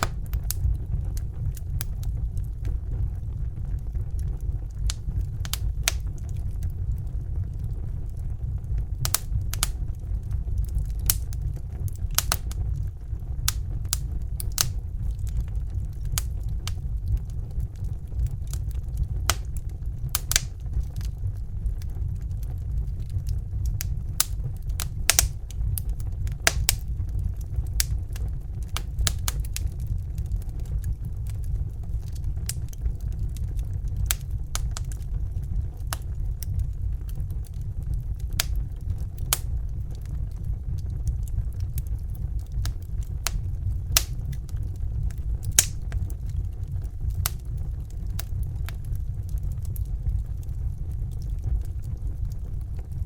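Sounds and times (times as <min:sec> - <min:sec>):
fire crackling and popping: 0:00.0 - 0:53.0
steady low rumble: 0:00.0 - 0:53.0.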